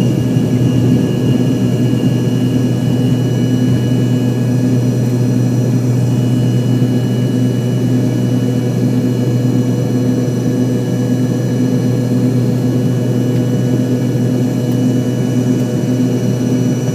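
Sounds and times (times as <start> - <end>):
airliner cabin engine drone: 0.0 - 16.9.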